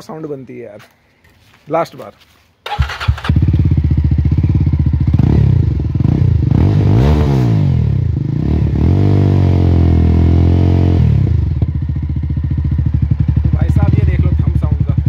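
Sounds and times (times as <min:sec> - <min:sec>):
motorcycle engine idling and revving: 0:02.7 - 0:15.0.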